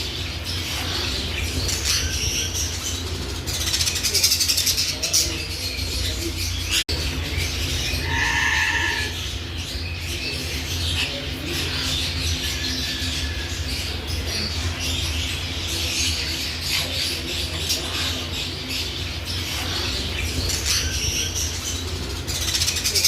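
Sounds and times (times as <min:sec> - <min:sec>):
budgies chattering and chirping: 0:00.0 - 0:23.0
steady low hum: 0:00.0 - 0:23.0.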